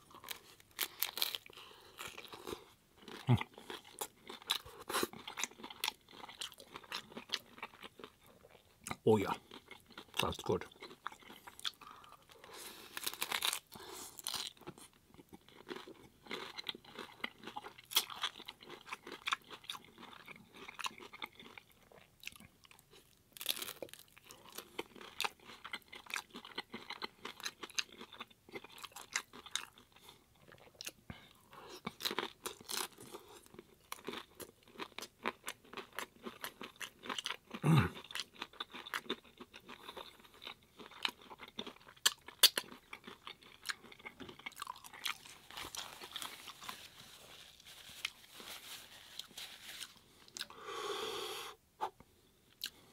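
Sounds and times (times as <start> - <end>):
crunching and chewing tacos: 0.0 - 50.6, 51.9 - 52.9.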